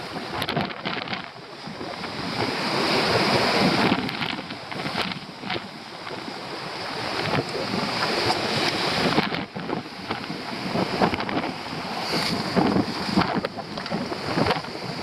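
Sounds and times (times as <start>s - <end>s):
surf crashing on rocks: 0.0s - 15.0s
wind buffeting microphone: 0.0s - 15.0s.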